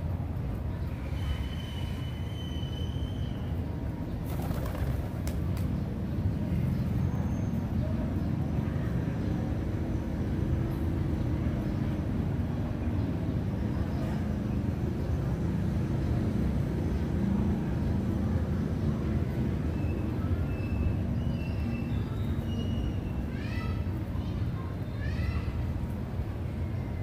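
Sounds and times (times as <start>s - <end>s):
distant city traffic rumble: 0.0s - 27.0s.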